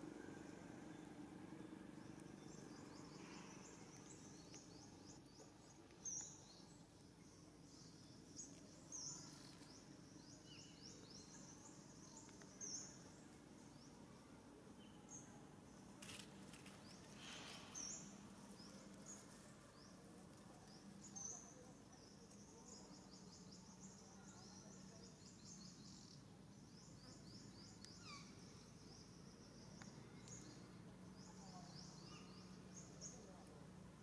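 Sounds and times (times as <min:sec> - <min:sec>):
low steady hum: 0:00.0 - 0:34.0
small birds chirping: 0:00.0 - 0:34.0.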